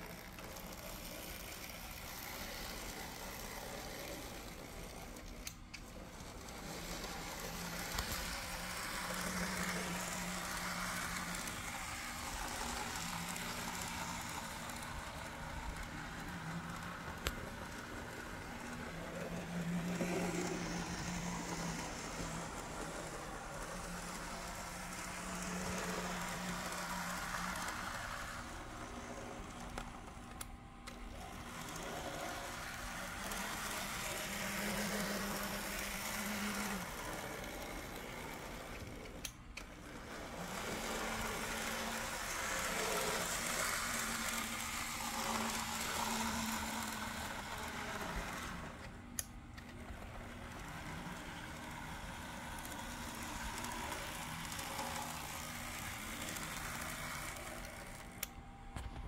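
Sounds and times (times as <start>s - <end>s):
model train motor and wheels whirring: 0.0s - 59.0s.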